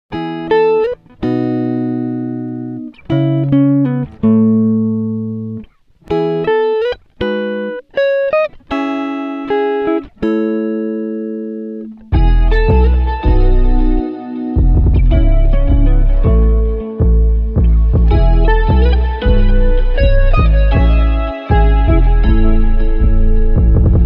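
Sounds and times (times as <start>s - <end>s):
clean guitar slow melody: 0.1s - 24.0s.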